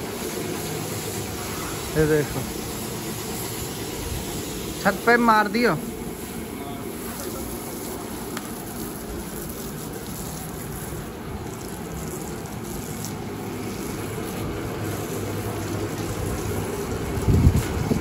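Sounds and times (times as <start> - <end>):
pressure washer spraying: 0.0 - 18.0.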